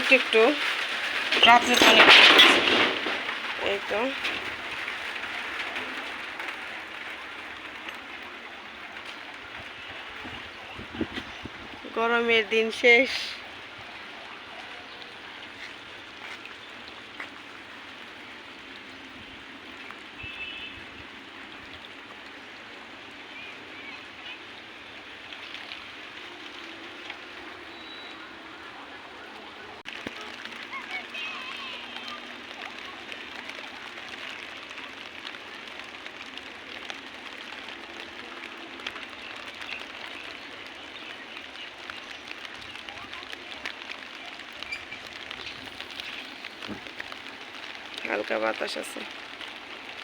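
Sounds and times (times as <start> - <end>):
light rain pattering: 0.0 - 50.0.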